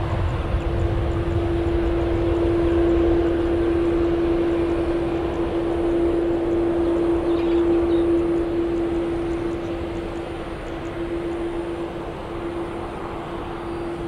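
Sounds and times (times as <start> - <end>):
jet engine rumble: 0.0 - 14.0
steady hum: 0.0 - 14.0.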